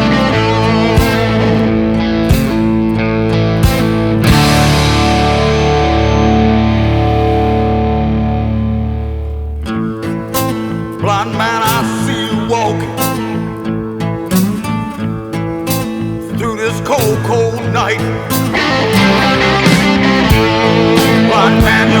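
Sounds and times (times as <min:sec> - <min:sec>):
rock electric guitar music: 0:00.0 - 0:22.0.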